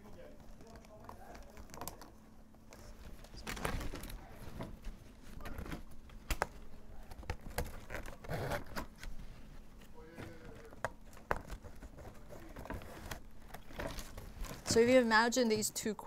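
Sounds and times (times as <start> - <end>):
plastic straps rustling and scraping: 0.1 - 5.9, 6.9 - 15.0.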